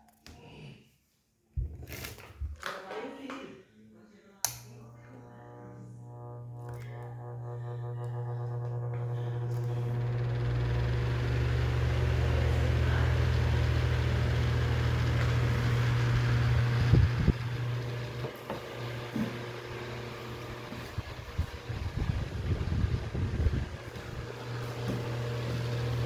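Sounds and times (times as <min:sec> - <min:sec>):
electric fan running: 0:04.4 - 0:26.0.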